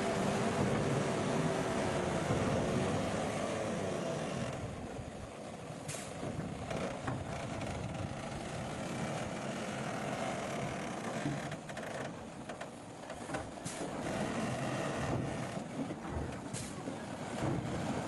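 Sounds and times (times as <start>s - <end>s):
heavy machinery engines running: 0.0s - 18.0s.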